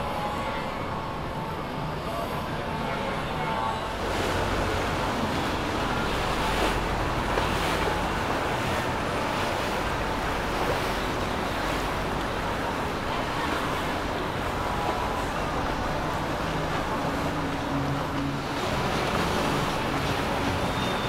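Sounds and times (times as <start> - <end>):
water rushing along hull: 0.0 - 21.0.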